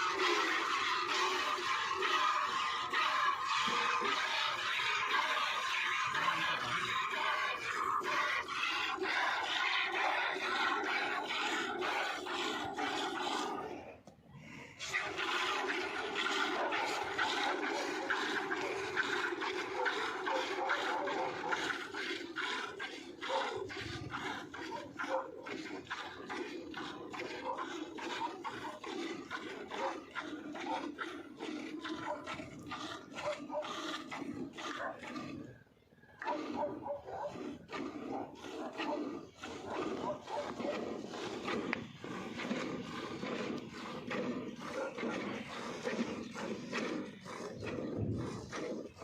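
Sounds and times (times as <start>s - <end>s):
milk squirting into bucket: 0.0s - 14.0s, 14.8s - 35.2s, 36.0s - 49.0s.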